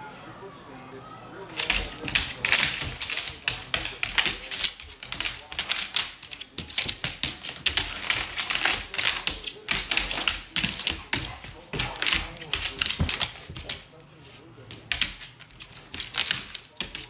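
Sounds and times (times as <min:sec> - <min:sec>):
dog claws clicking on wood floor: 0:01.5 - 0:17.0.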